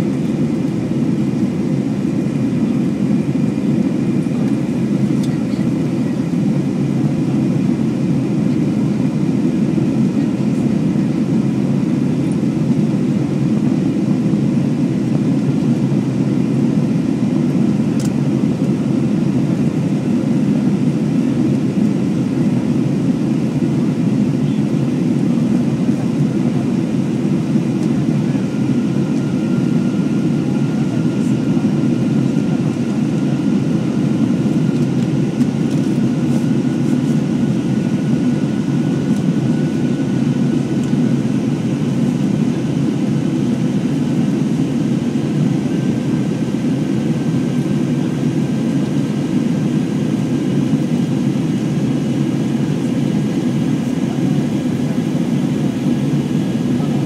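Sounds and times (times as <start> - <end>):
jet engine and airflow rush: 0.0 - 57.0.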